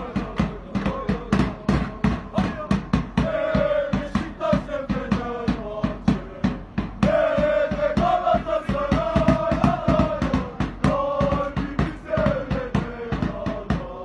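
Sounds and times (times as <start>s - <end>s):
crowd chanting in unison: 0.0s - 14.0s
rhythmic beat of sharp hits: 0.0s - 14.0s.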